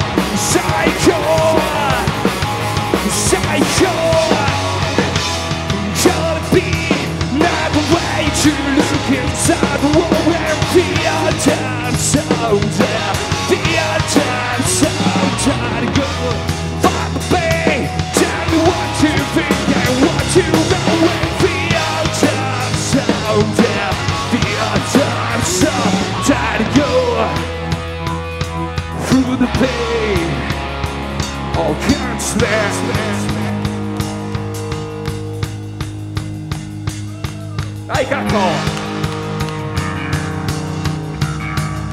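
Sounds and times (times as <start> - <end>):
man singing: 0.0 - 34.3, 37.1 - 39.1
live rock band playing: 0.0 - 41.9.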